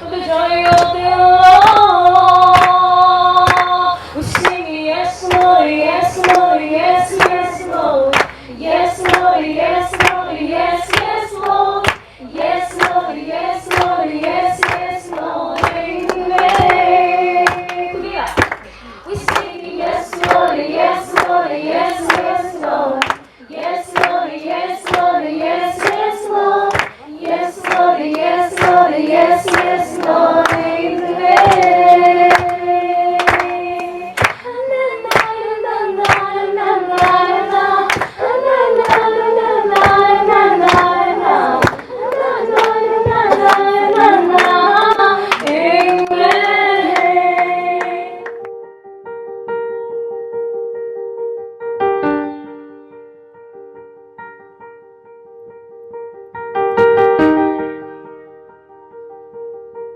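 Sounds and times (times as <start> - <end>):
group of people singing: 0.0 - 48.5
rhythmic hand clapping: 0.1 - 48.6.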